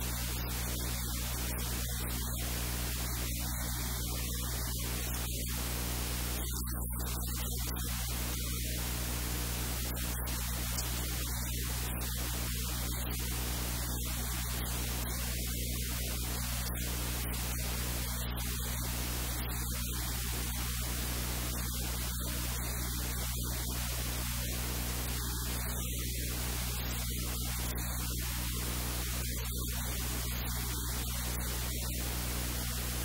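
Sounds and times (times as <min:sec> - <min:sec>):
low electrical hum: 0:00.0 - 0:33.0
steady hiss: 0:00.0 - 0:33.0.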